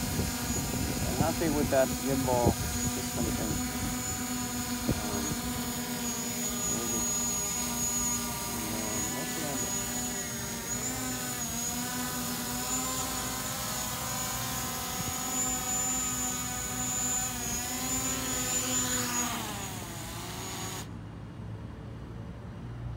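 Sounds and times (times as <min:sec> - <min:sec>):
drone propellers whining: 0:00.0 - 0:20.9.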